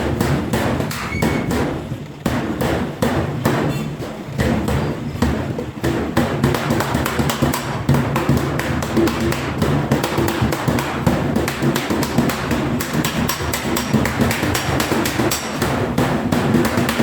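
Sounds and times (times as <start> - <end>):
hammer striking sheet steel: 0.0 - 17.0.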